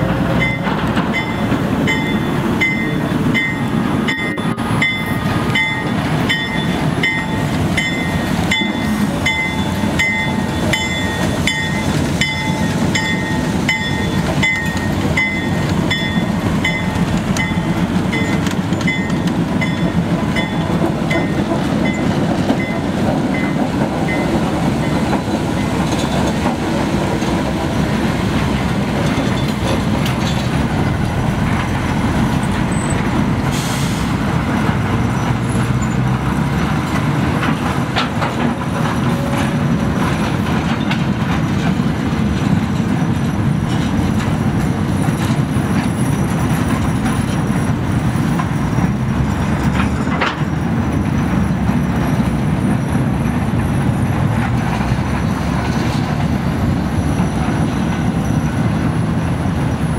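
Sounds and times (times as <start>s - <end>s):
wheels clicking over rail joints: 0.0s - 33.4s, 34.4s - 59.9s
train rolling rumble: 0.0s - 59.9s.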